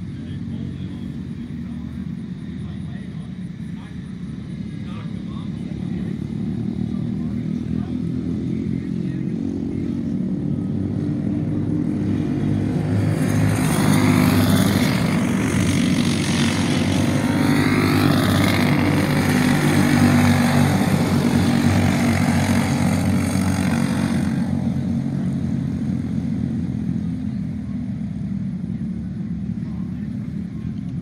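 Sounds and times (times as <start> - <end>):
go-kart engines racing: 0.0 - 31.0.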